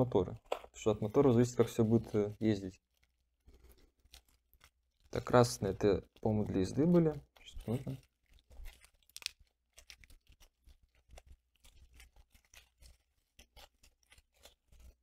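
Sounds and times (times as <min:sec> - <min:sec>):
wrapping crinkling: 0:00.0 - 0:15.0.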